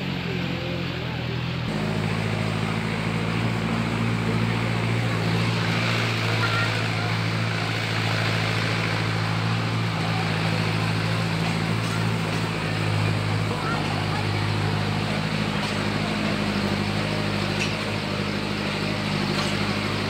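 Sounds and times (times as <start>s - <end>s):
tractor engine hum: 0.0s - 20.0s
metal trailer rattling on rough road: 1.7s - 20.0s.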